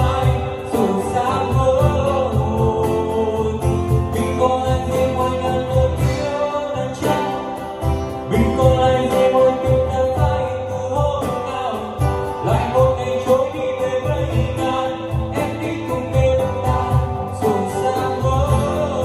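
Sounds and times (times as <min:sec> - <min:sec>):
song over loudspeaker: 0:00.0 - 0:19.0.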